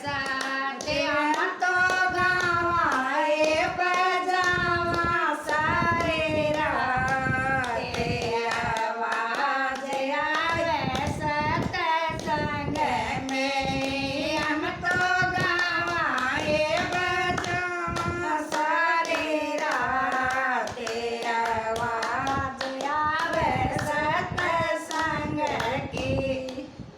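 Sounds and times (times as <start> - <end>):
hand clapping: 0.0 - 26.7
person singing devotional song: 0.0 - 26.9.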